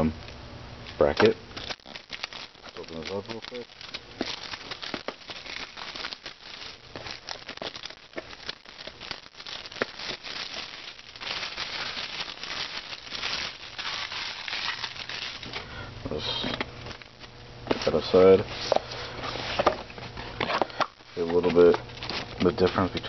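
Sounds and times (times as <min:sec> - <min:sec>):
plastic shrink wrap crinkling: 0:00.9 - 0:15.7, 0:16.8 - 0:23.0.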